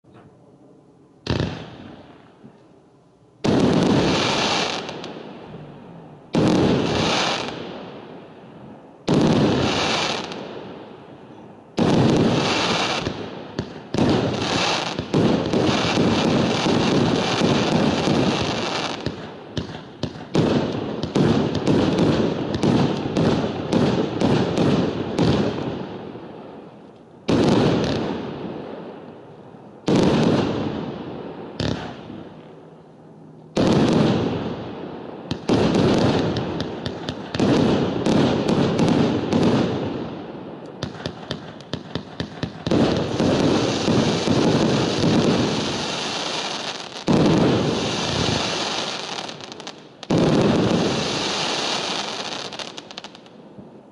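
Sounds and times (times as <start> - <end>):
fireworks firing and bursting: 1.2 - 2.4, 3.4 - 8.4, 9.0 - 10.9, 11.7 - 32.6, 33.5 - 53.9
heavy firework bursts with crackle: 3.4 - 8.0, 9.0 - 10.7, 11.8 - 28.6, 29.8 - 32.5, 33.6 - 53.3.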